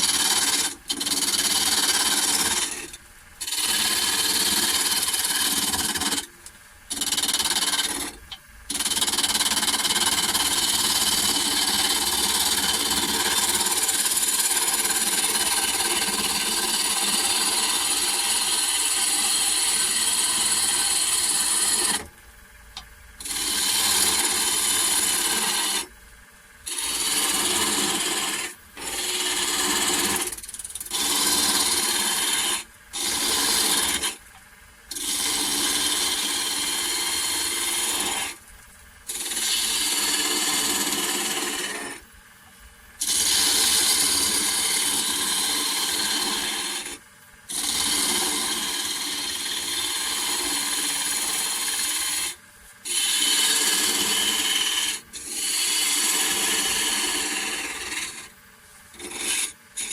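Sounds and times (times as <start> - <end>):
lathe tool scraping wood: 0.0 - 6.3, 6.9 - 22.1, 23.2 - 25.9, 26.7 - 34.2, 34.9 - 38.4, 39.1 - 42.0, 43.0 - 58.3, 58.9 - 59.9.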